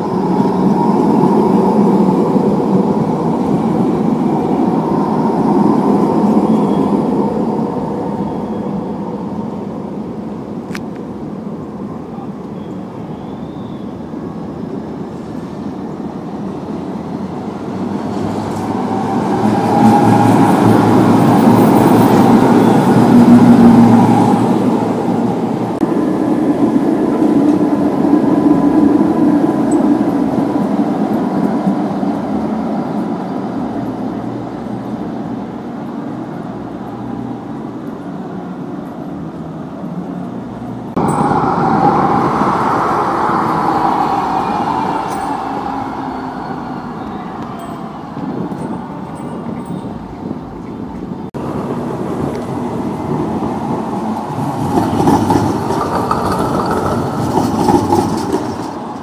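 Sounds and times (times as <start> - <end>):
electric trams passing: 0.0 - 59.0.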